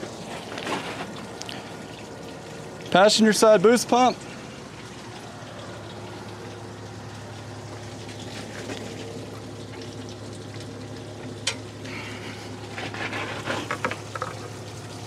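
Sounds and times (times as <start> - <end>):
steady low hum: 0.0 - 15.0
water running and splashing: 0.0 - 15.0.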